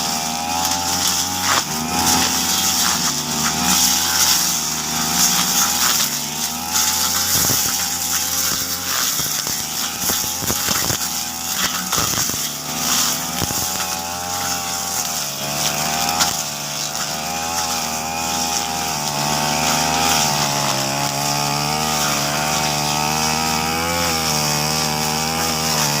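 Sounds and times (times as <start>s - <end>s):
brush cutter engine cutting grass: 0.0s - 26.0s.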